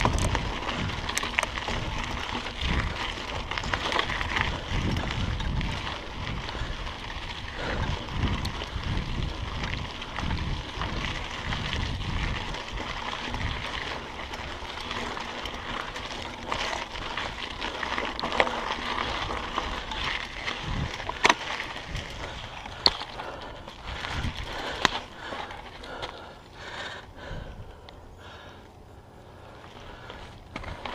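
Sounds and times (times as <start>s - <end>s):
tyres rolling over dirt and rock: 0.0s - 27.5s, 29.4s - 30.9s
wind rumbling on microphone: 0.0s - 28.4s
bike rattling: 0.0s - 30.9s.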